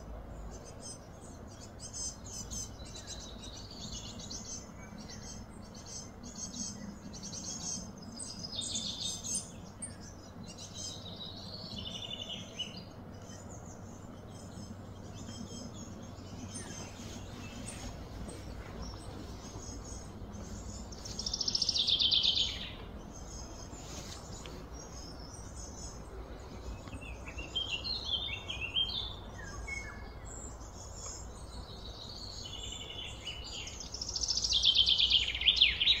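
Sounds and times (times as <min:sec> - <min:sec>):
birds chirping: 0:00.0 - 0:36.0
outdoor ambient noise: 0:00.0 - 0:36.0.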